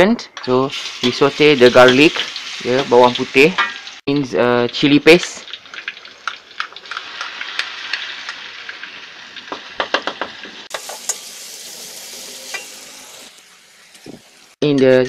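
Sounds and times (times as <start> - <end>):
paste sizzling in hot oil: 0.7 - 4.1, 4.8 - 14.6.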